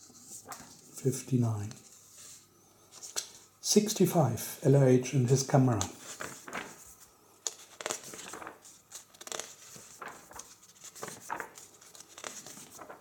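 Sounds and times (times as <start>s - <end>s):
book pages rustling: 0.0s - 3.4s, 5.7s - 13.0s.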